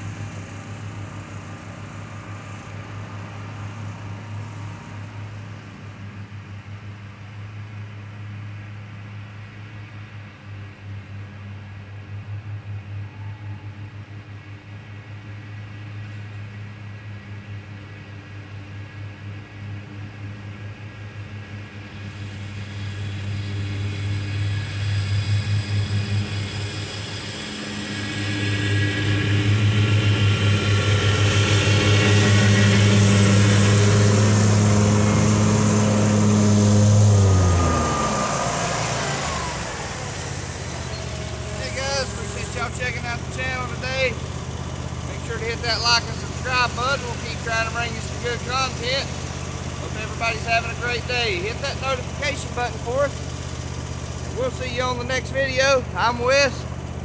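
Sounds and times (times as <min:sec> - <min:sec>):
riding mowers engine drone: 0:00.0 - 0:57.0.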